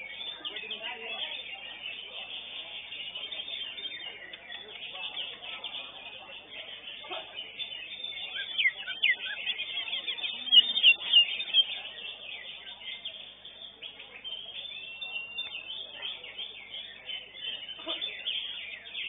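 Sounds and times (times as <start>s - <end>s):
birds singing rapid chirps: 0.0s - 19.0s.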